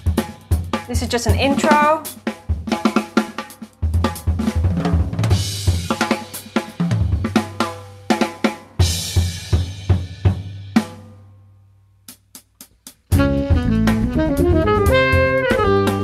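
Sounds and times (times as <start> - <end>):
jazz drum kit playing: 0.0 - 11.1, 12.1 - 16.0.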